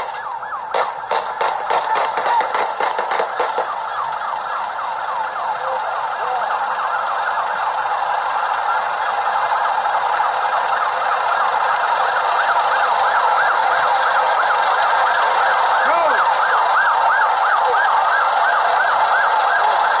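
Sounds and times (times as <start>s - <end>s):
police sirens yelping: 0.0s - 20.0s.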